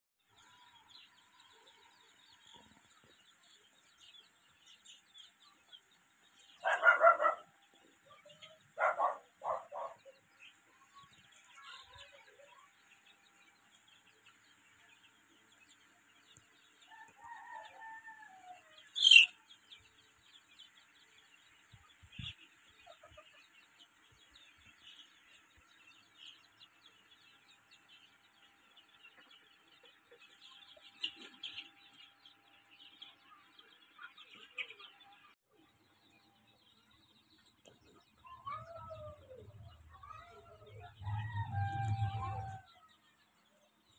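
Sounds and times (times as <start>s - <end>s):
chicks peeping: 0.2s - 43.9s.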